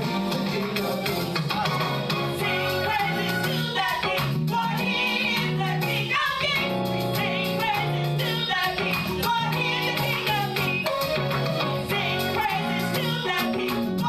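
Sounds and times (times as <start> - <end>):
band with bass notes: 0.0 - 14.0
voices singing worship song: 0.0 - 14.0.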